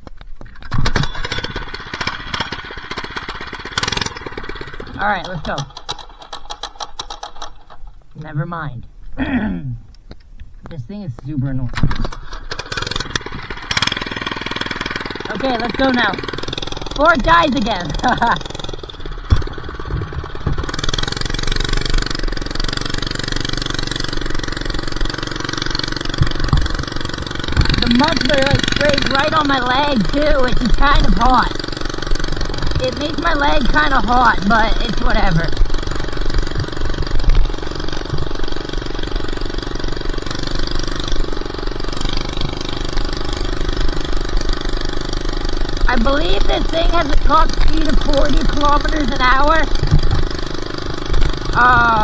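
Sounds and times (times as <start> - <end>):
small engine running without muffler: 0.0 - 8.4, 11.7 - 52.0.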